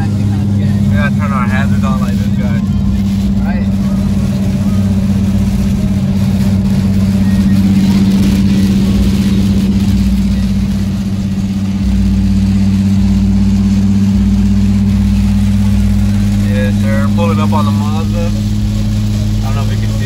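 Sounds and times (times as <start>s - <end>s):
car engine and tyres droning: 0.0s - 20.0s.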